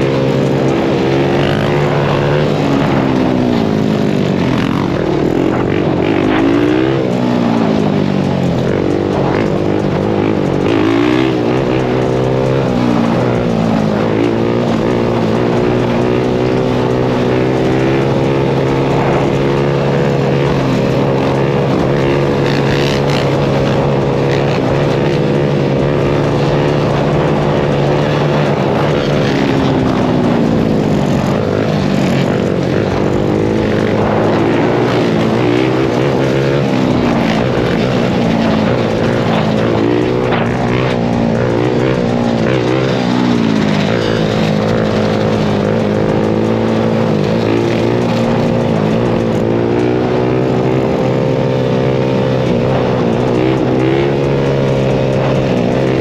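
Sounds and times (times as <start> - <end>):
engines droning: 0.0 - 56.0
quad engine revving: 0.0 - 56.0.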